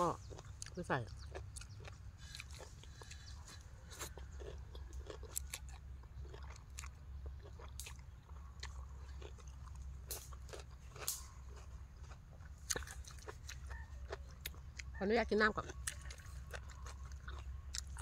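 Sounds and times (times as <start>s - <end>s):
person chewing food: 0.0s - 18.0s
wet mouth clicks and crunches: 0.2s - 15.0s, 15.6s - 18.0s.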